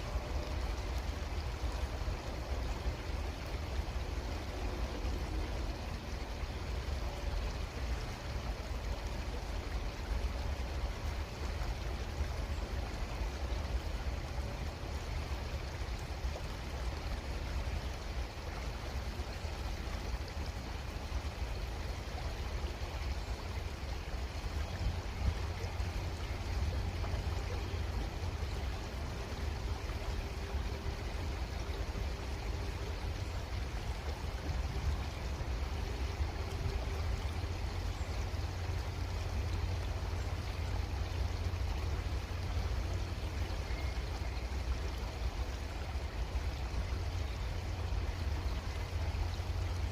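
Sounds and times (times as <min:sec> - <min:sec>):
creek water flowing: 0:00.0 - 0:49.9.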